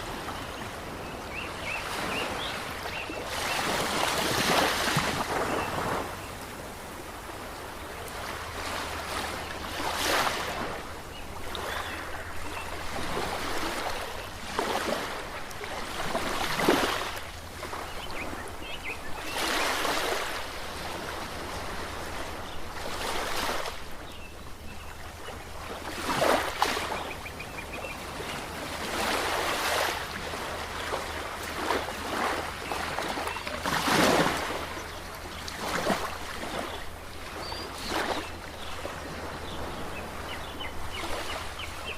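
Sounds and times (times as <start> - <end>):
ocean waves splashing on shore: 0.0 - 41.9.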